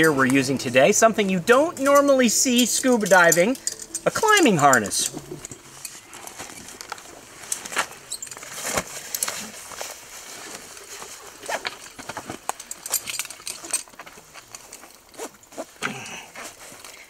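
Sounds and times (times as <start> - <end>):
metal buckles clicking: 0.0 - 9.5, 11.4 - 15.8.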